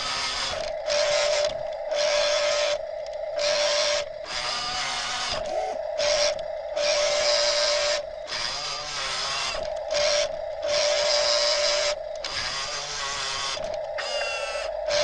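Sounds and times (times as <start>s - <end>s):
toy electric motor whining: 0.0s - 2.8s, 3.4s - 15.0s.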